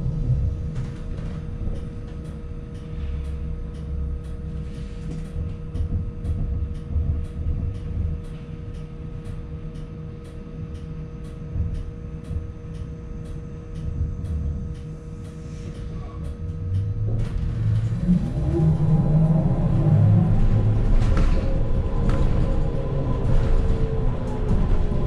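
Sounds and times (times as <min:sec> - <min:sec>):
electrical equipment humming: 0:00.0 - 0:25.0
low rumble: 0:00.0 - 0:25.0.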